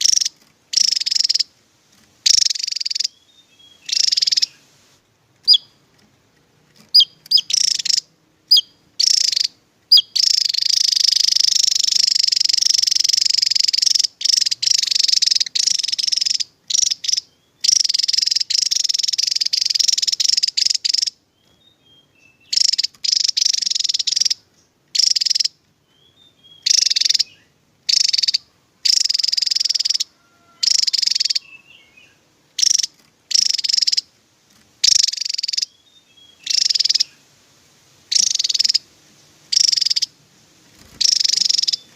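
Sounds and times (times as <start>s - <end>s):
bird high-pitched trilling song: 0.0s - 1.5s, 2.2s - 4.7s, 5.4s - 5.8s, 6.8s - 34.1s, 34.8s - 37.2s, 38.1s - 38.9s, 39.5s - 40.2s, 40.8s - 41.9s.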